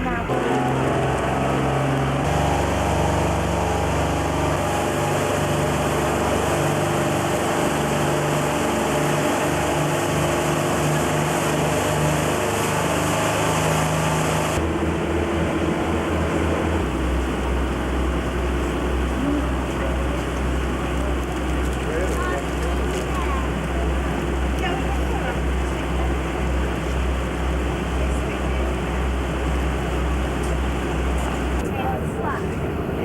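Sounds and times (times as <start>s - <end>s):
boat engine running: 0.0s - 33.0s
constant rush of noise: 0.0s - 33.0s.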